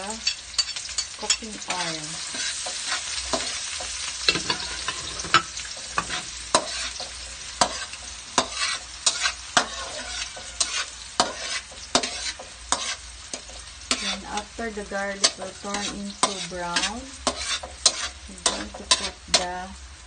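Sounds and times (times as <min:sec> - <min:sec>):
metal spatula scraping wok: 0:00.0 - 0:19.7
garlic sizzling in hot oil: 0:00.0 - 0:20.0.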